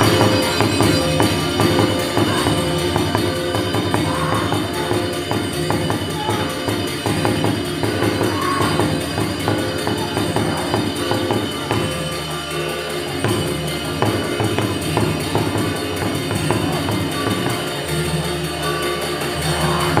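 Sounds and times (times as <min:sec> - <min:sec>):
gamelan playing: 0:00.0 - 0:20.0.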